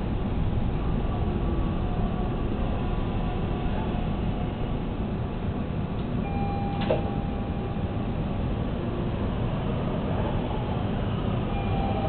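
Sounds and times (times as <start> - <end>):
subway train running on track: 0.0 - 12.0.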